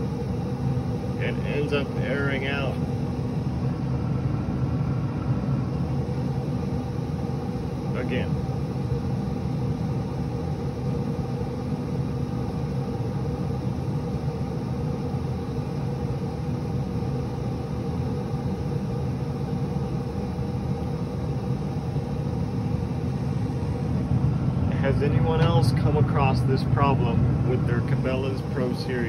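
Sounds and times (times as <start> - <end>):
grill fan hum: 0.0 - 29.0.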